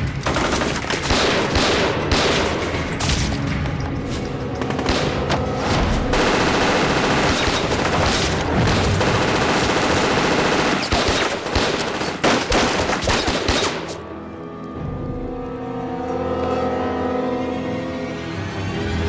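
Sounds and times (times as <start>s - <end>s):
soft background music: 0.0s - 10.4s, 11.4s - 19.0s.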